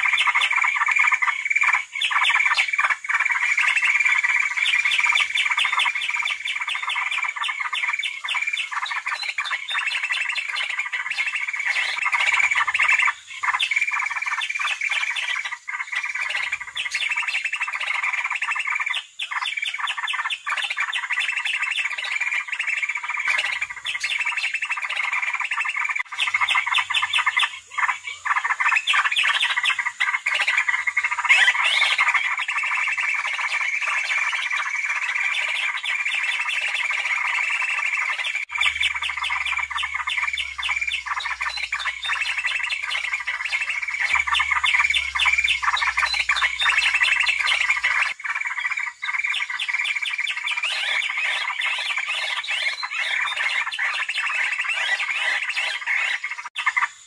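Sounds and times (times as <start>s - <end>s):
birds chattering rapidly: 0.0s - 57.0s.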